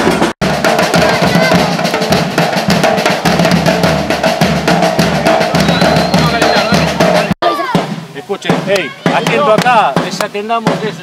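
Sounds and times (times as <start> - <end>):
drum band pounding fast rhythm: 0.0 - 11.0.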